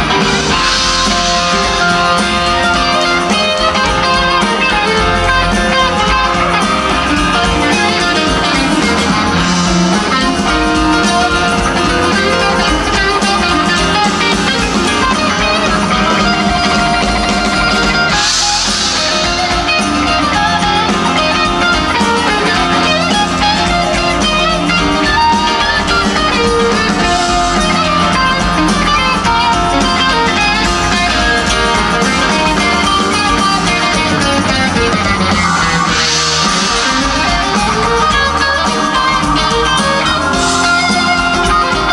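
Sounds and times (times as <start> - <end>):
drum kit: 0.0 - 41.9
electric guitar: 0.0 - 41.9
keyboards: 0.0 - 41.9.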